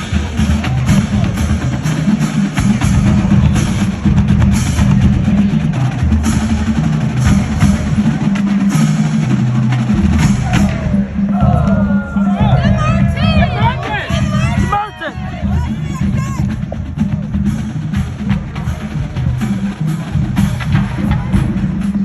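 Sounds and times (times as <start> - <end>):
drums striking: 0.0 - 22.0
marching band music: 0.0 - 22.0.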